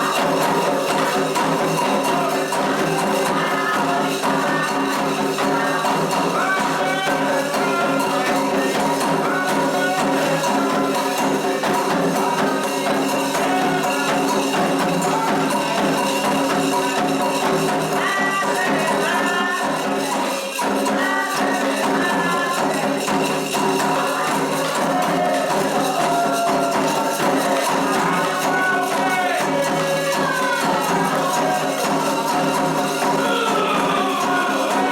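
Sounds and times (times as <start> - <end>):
hand percussion with jingling: 0.0 - 34.9
voices singing: 0.0 - 34.9.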